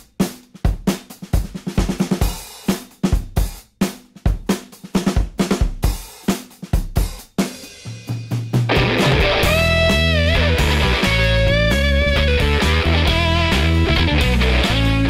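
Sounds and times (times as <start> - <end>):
drum kit playing steady beat: 0.0 - 15.0.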